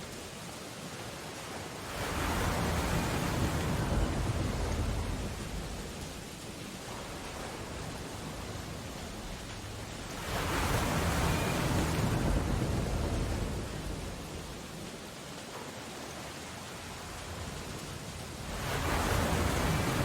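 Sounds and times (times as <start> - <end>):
rain: 0.0 - 20.0
storm surf: 0.0 - 20.0
wave breaking: 1.8 - 14.9, 17.0 - 20.0.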